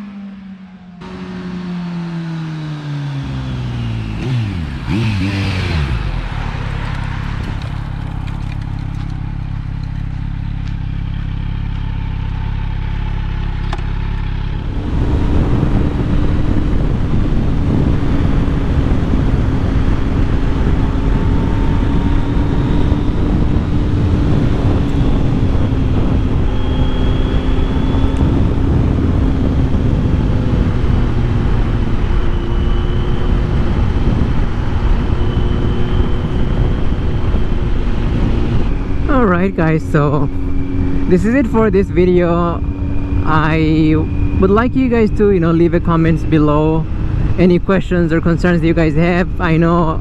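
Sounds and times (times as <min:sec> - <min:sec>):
motorcycle engine passing by: 0:00.0 - 0:44.5
rough steady engine drone: 0:00.6 - 0:50.0.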